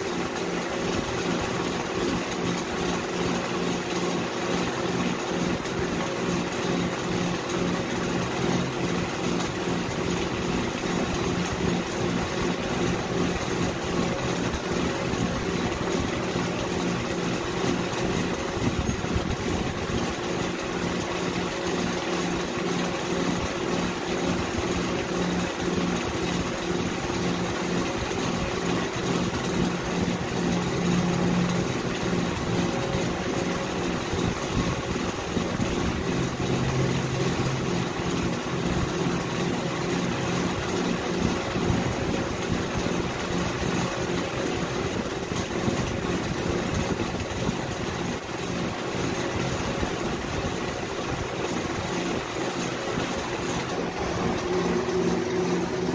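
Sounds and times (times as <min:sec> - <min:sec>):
motor humming: 0:00.0 - 0:55.9.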